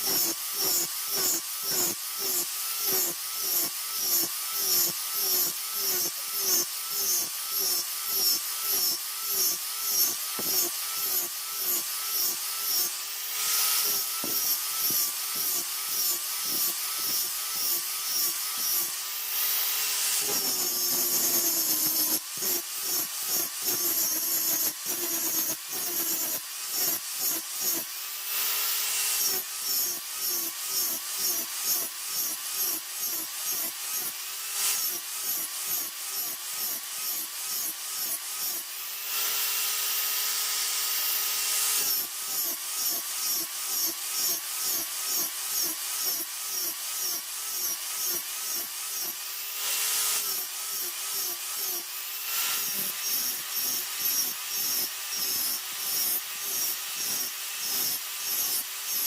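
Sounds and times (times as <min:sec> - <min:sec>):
electric power tool sharpening knife: 0:00.0 - 0:59.0.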